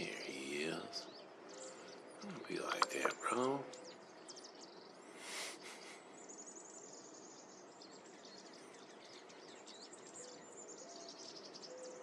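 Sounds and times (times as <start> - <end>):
outdoor noise hiss: 0.0 - 12.0
small birds chirping: 0.0 - 12.0.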